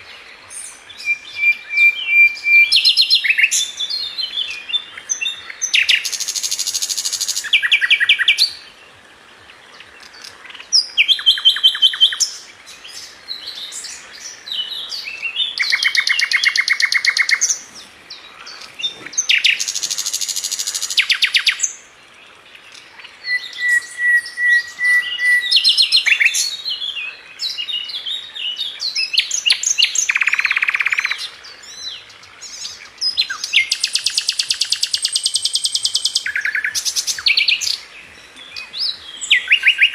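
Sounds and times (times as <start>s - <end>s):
bird singing trills and chirps: 0.0s - 8.8s, 9.5s - 22.0s, 22.6s - 39.9s.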